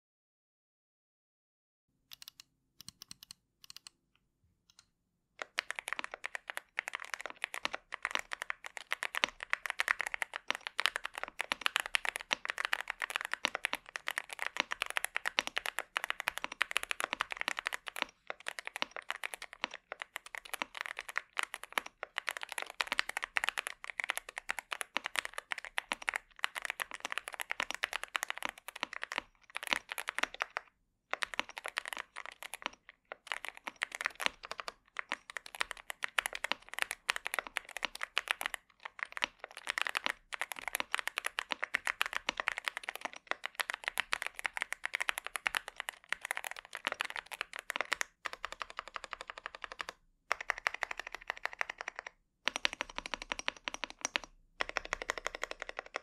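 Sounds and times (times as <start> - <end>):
fast mechanical keyboard typing: 5.4 - 56.0.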